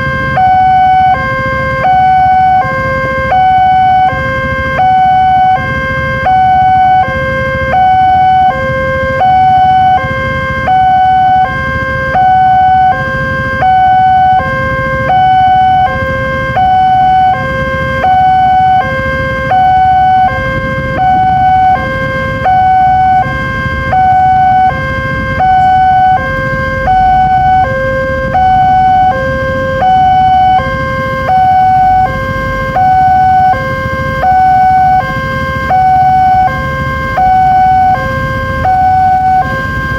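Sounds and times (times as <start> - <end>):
low rumble: 0.0 - 39.9
two-tone warning siren: 0.0 - 39.9.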